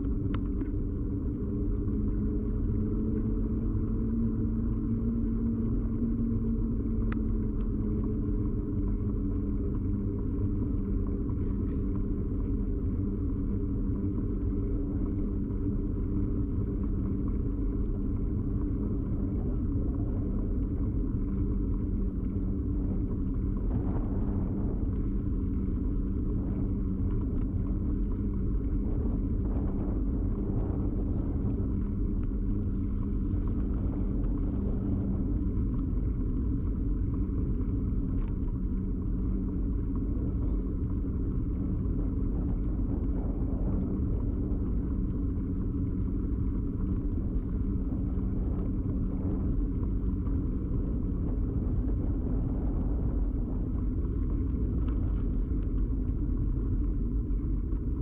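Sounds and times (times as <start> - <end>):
bicycle ride vibration rumble: 0.0 - 58.0
low humming tone: 0.0 - 58.0.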